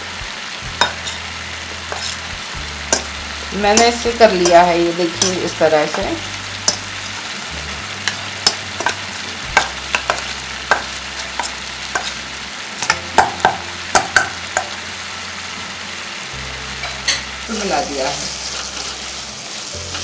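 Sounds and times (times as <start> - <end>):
frying sizzle: 0.0 - 20.0.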